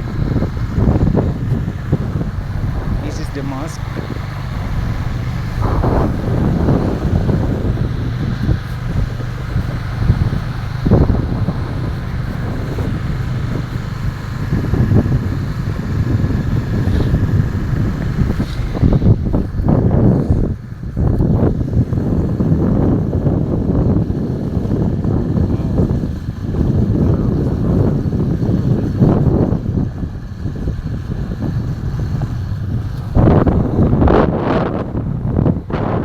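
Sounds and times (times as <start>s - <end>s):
low steady rumble: 0.0s - 36.0s
wind buffeting microphone: 0.0s - 36.0s.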